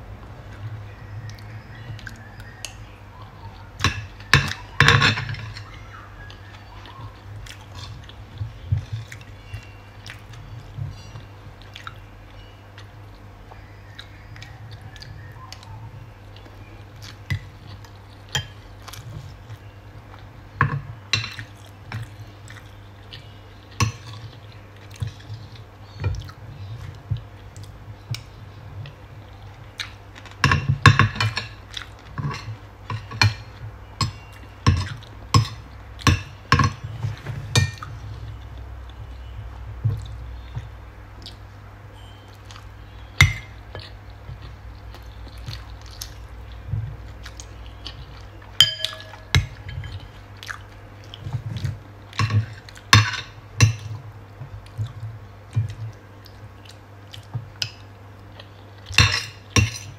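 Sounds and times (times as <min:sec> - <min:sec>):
person chewing food: 0:00.2 - 0:59.9.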